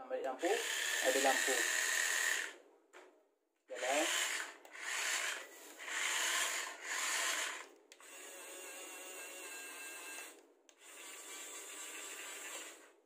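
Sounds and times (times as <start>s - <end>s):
electric drive motor spurts: 0.4s - 2.6s, 3.8s - 12.9s.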